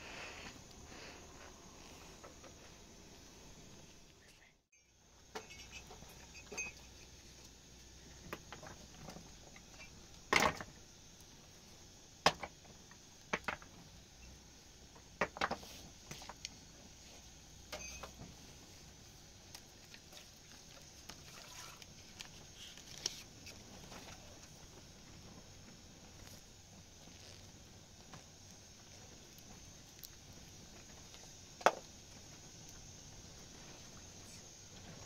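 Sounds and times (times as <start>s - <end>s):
faint steady background noise: 0.0s - 35.0s.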